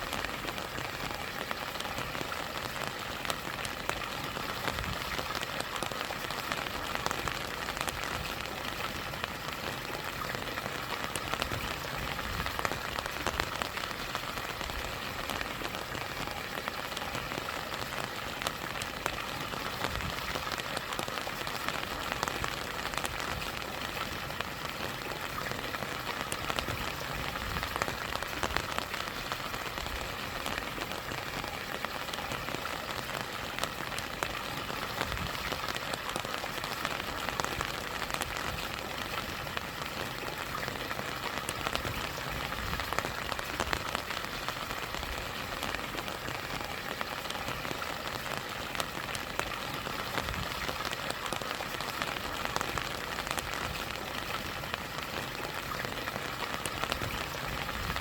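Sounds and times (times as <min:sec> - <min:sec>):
rain drops ticking: 0:00.0 - 0:58.0.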